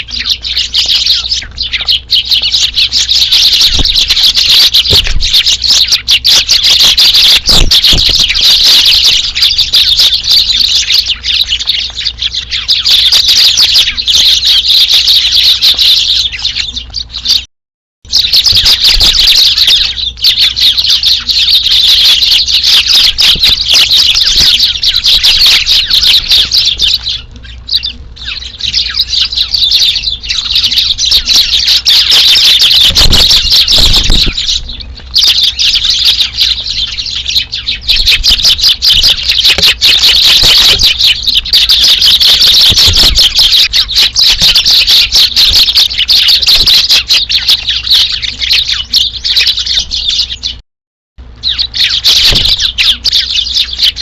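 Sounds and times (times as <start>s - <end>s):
sparrows chirping: 0.0s - 17.5s, 18.1s - 50.6s, 51.2s - 54.0s.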